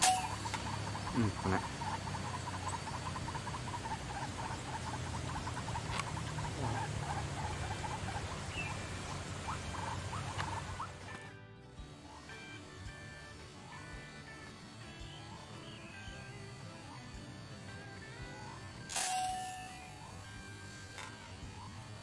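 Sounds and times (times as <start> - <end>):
bird calling repeated notes: 0.0 - 11.2, 12.0 - 22.0
low steady hum: 0.0 - 22.0.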